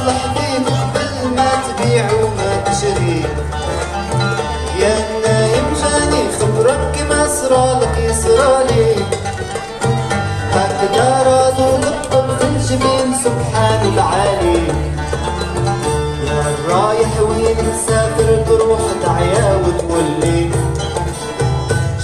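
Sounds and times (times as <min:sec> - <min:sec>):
small band playing live: 0:00.0 - 0:22.0.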